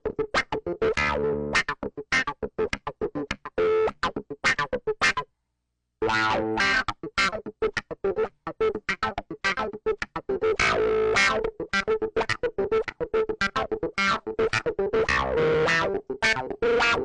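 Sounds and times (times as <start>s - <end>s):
clavinet staccato riff: 0.0s - 5.2s, 6.0s - 17.0s.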